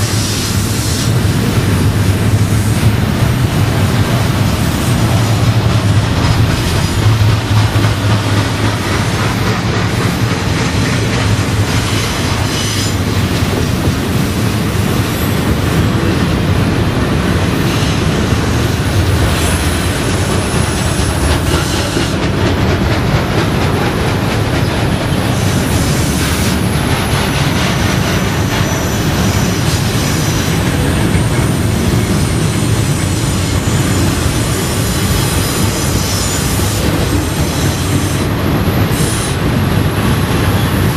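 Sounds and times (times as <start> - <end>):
steel train wheels on rails: 0.0 - 40.9.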